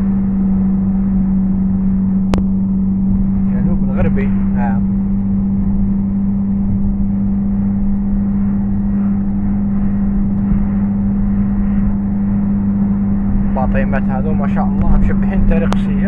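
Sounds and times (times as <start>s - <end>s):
car engine and tyre drone: 0.0s - 16.0s
low hum: 0.0s - 16.0s.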